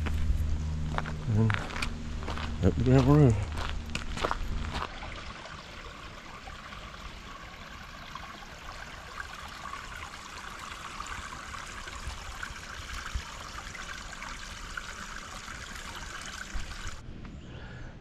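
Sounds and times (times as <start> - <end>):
creek babbling: 1.0 - 17.0.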